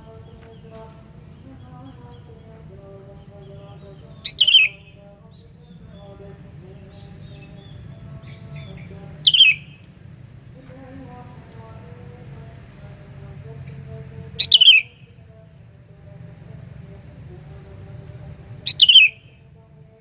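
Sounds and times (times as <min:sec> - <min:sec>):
bird calling: 0:00.0 - 0:15.7, 0:16.3 - 0:19.6
faint low hum: 0:00.0 - 0:20.0.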